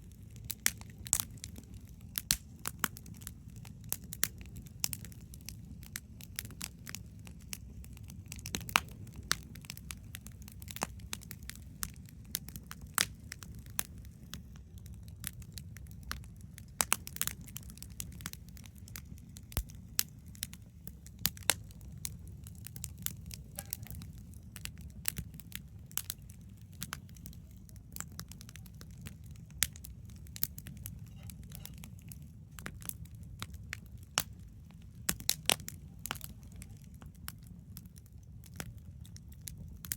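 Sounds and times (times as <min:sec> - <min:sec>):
campfire crackling and popping: 0:00.0 - 0:39.9
low steady rumble: 0:00.0 - 0:39.9.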